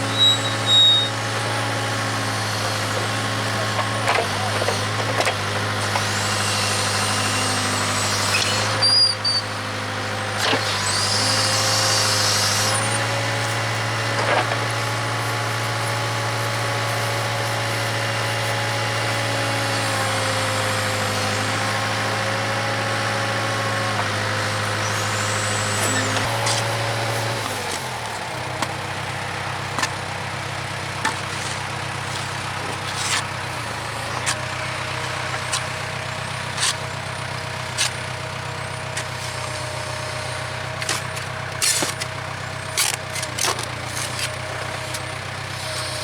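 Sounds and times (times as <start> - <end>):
diesel engine running: 0.0 - 46.0
hydraulic whine: 0.0 - 46.0.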